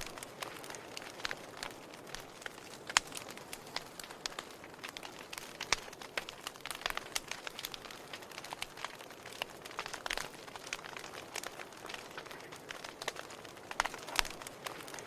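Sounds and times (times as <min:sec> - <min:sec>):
soft hiss of fire: 0:00.0 - 0:15.0
wood fire crackling: 0:00.0 - 0:15.0.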